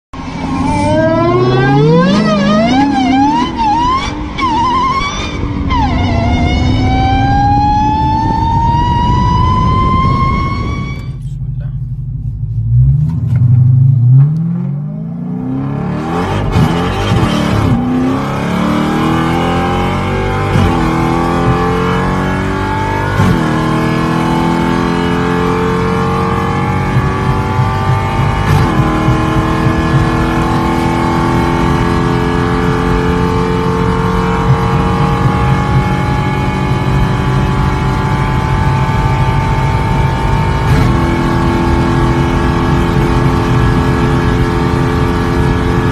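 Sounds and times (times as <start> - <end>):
car engine accelerating hard: 0.2 - 45.9.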